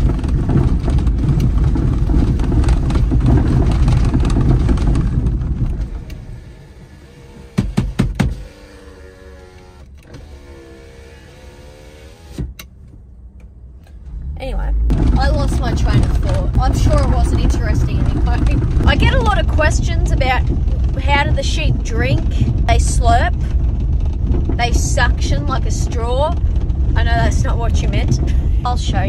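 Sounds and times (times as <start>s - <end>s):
vehicle driving rumble: 0.0s - 29.0s.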